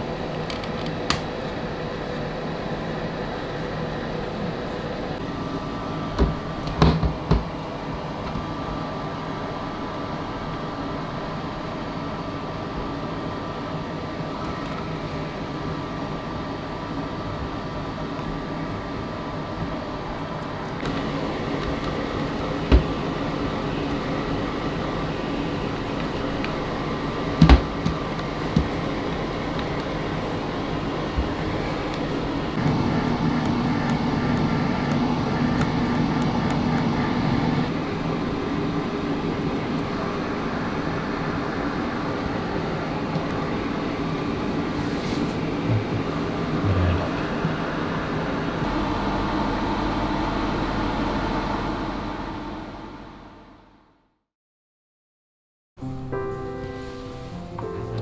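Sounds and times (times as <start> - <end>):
dryer blowing air through hose: 0.0 - 52.3.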